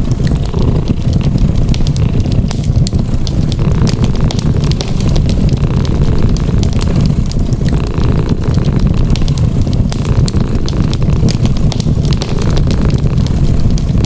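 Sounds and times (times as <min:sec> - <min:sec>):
cat purring: 0:00.0 - 0:14.0
wood fire crackling and popping: 0:00.0 - 0:14.0.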